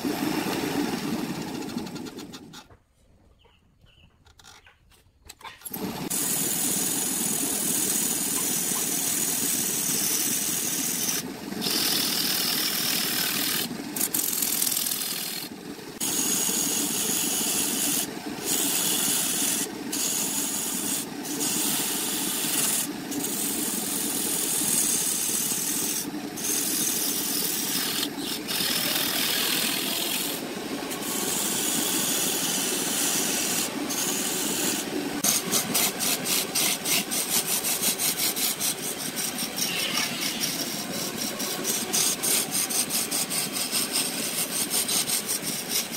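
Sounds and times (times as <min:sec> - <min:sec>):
tool scraping wood on a lathe: 0:01.4 - 0:02.8, 0:05.4 - 0:45.9.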